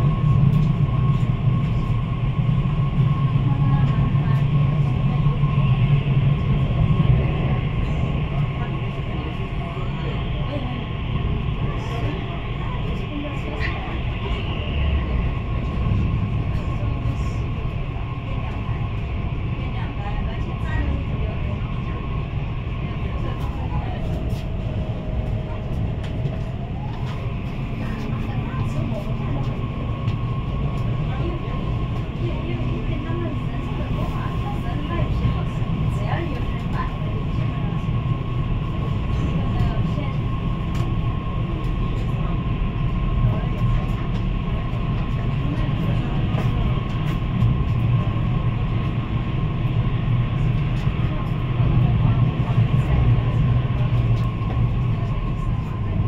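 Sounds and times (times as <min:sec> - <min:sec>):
train running low rumble: 0:00.0 - 0:56.0.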